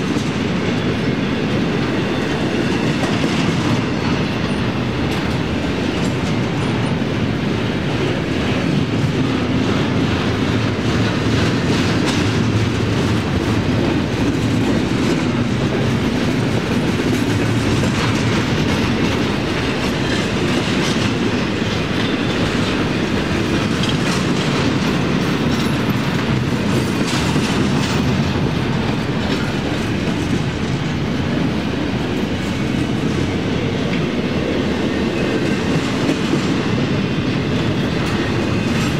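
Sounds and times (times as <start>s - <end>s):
freight train rumble: 0.0s - 38.9s
train wheels clattering over joints: 0.0s - 38.9s.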